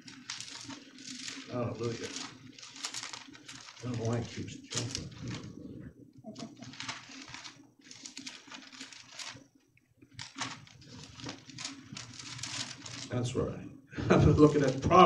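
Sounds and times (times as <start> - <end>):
book pages rustling: 0.0 - 13.6, 14.4 - 15.0.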